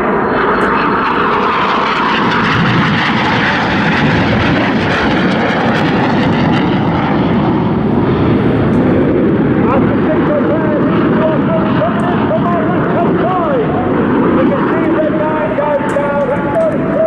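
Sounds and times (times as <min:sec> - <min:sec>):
jets flying past: 0:00.0 - 0:17.0.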